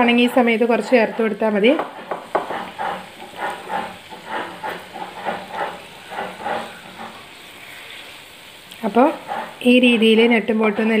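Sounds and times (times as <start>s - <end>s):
food sizzling in a frying pan: 0.0s - 11.0s
wooden spatula scraping pan: 0.0s - 11.0s.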